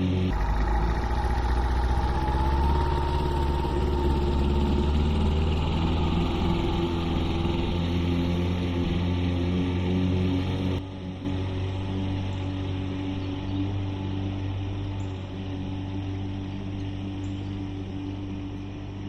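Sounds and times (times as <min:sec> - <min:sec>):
motor droning with whine: 0:00.0 - 0:19.0.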